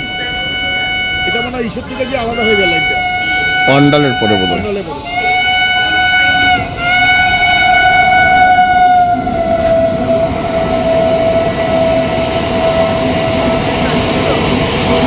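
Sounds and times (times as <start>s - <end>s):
rumble of passing train: 0.0s - 15.0s
train horn blast: 0.0s - 15.0s.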